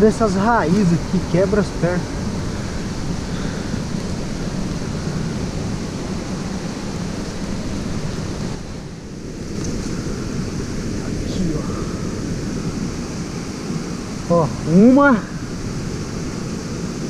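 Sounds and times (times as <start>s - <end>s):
waterfall stream rushing: 0.0s - 17.0s.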